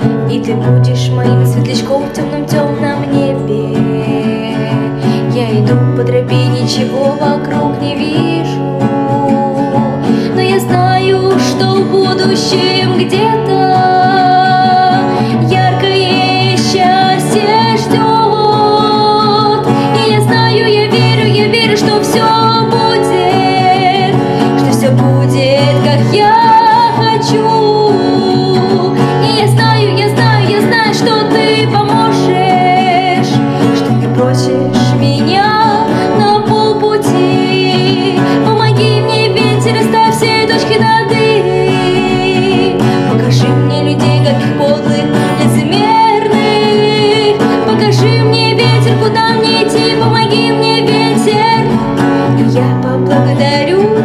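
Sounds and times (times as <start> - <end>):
acoustic guitar: 0.0 - 54.0
woman singing: 0.0 - 54.0.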